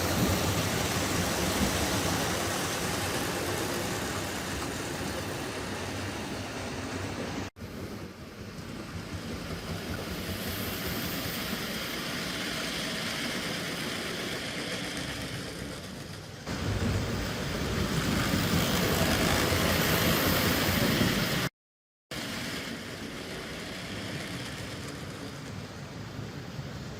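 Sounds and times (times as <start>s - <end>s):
model train rumbling on track: 0.0s - 21.5s, 22.1s - 26.9s.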